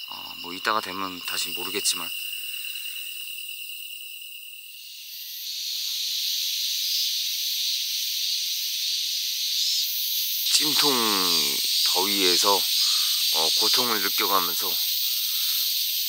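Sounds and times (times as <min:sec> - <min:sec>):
hissing insect chorus: 0:00.0 - 0:16.0
night insects chirring: 0:00.0 - 0:16.0.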